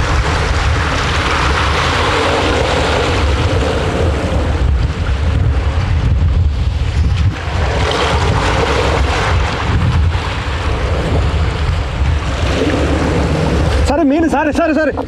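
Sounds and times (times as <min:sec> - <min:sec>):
sea water noise: 0:00.0 - 0:15.0
wind buffeting microphone: 0:00.0 - 0:15.0.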